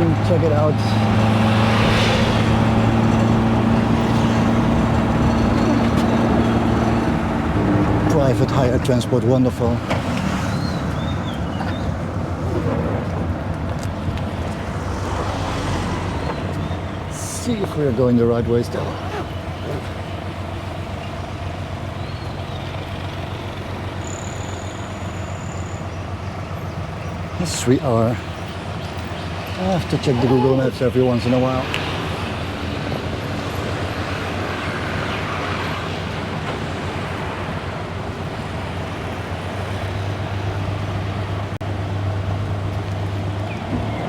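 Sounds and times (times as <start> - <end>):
road noise: 0.0 - 44.0
rushing ride noise: 0.0 - 44.0
tuk-tuk engine running: 0.0 - 44.0.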